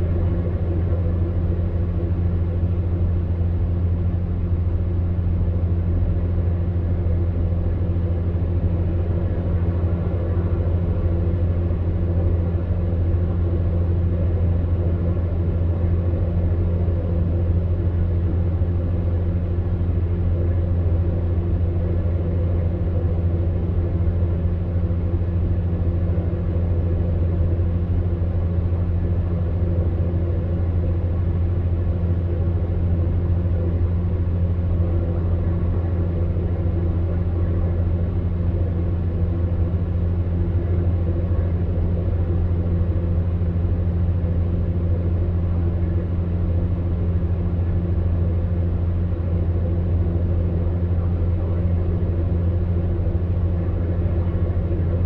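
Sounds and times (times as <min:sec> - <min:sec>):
fan heater humming: 0:00.0 - 0:55.0.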